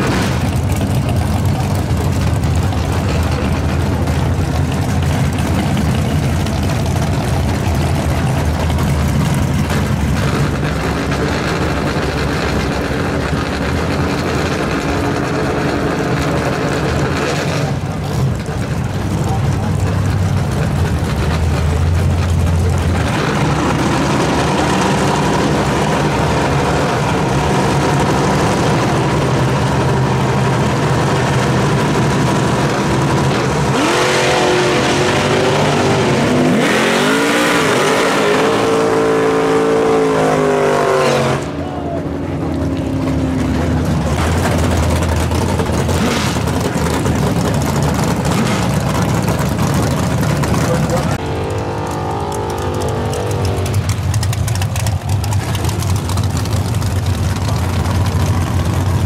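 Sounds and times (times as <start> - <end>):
race car engines rumbling: 0.0 - 59.0.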